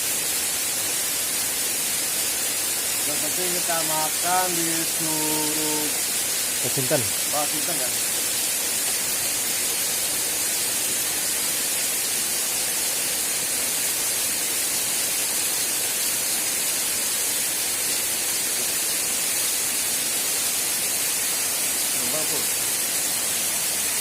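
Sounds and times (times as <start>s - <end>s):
waterfall rushing: 0.6s - 24.0s.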